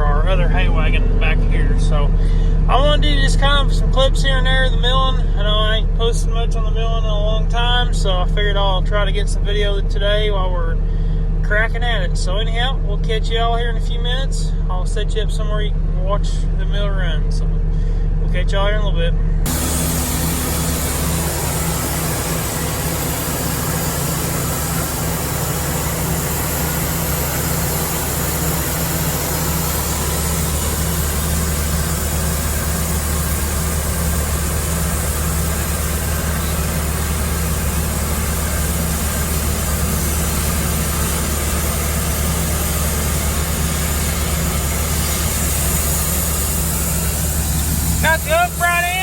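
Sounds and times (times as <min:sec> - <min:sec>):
sawmill engine running: 0:00.0 - 0:49.0.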